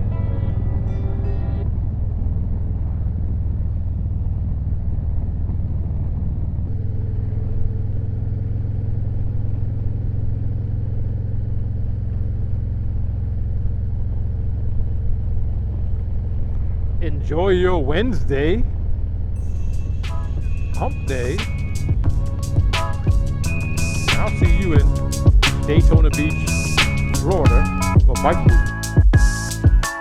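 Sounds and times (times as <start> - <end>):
motorcycle engine running: 0.0 - 29.8.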